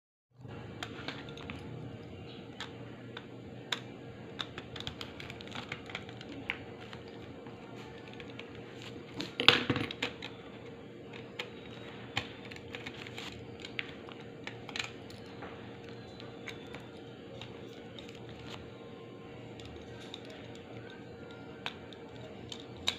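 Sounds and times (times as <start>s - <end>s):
steady hum: 0.4s - 22.9s.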